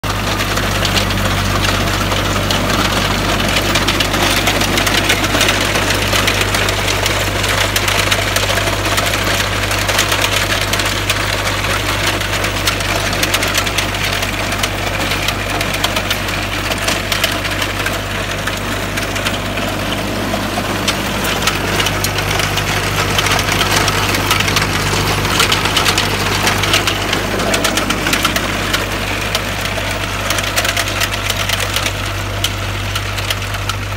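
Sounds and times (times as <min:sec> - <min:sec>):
implement clattering and rattling: 0:00.0 - 0:33.9
tractor diesel engine running: 0:00.0 - 0:33.9.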